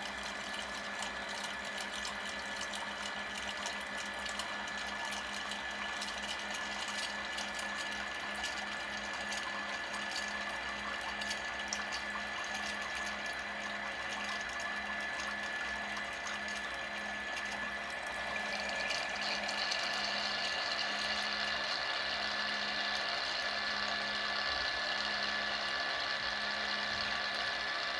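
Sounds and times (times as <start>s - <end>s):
water flowing and splashing: 0.0s - 24.2s
pump electric hum: 0.0s - 27.9s.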